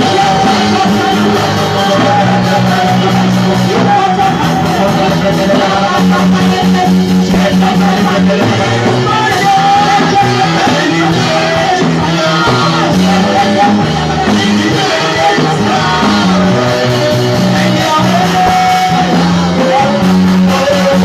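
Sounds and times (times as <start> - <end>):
band playing with singing: 0.0 - 21.0
held bass notes: 0.0 - 21.0.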